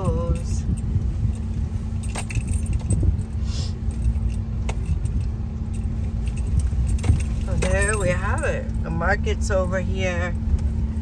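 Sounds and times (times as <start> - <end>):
car road rumble: 0.0 - 11.0
loose things rattling: 0.0 - 11.0.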